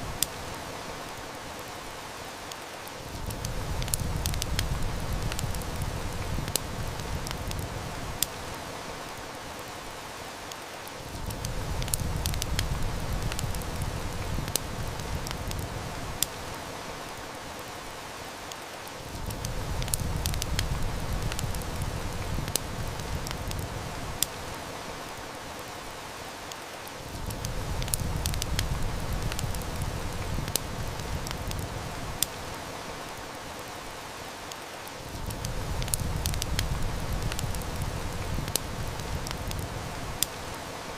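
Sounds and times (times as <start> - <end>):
heavy rain: 0.0 - 40.9
wood fire snapping and crackling: 0.0 - 40.9.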